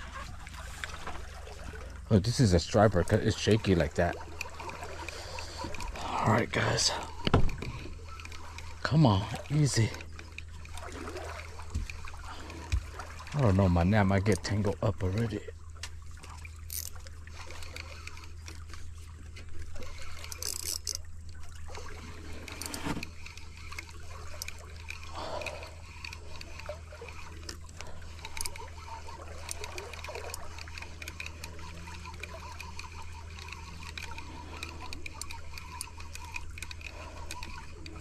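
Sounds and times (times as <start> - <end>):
water trickling and splashing: 0.0 - 38.0.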